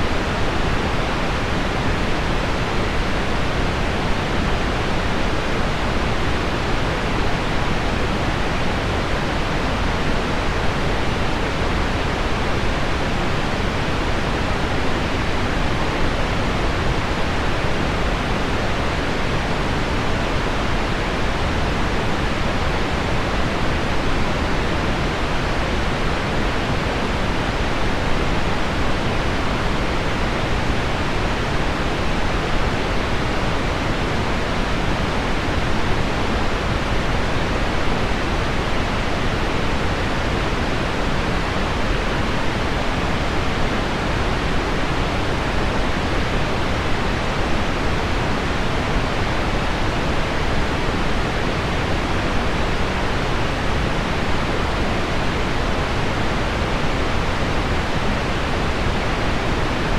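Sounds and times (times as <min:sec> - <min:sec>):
pink noise: 0:00.0 - 0:59.9.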